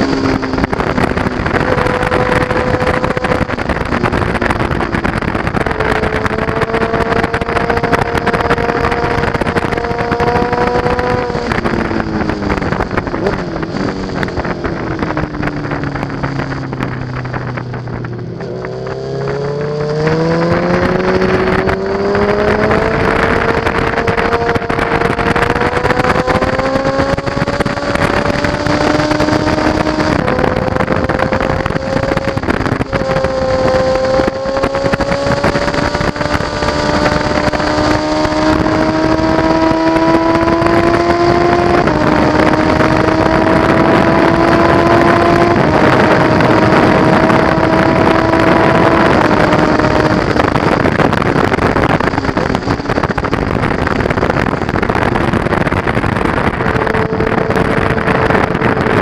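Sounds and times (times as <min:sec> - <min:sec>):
sport bike engine accelerating: 0:00.0 - 0:59.0
wind rushing: 0:00.0 - 0:59.0.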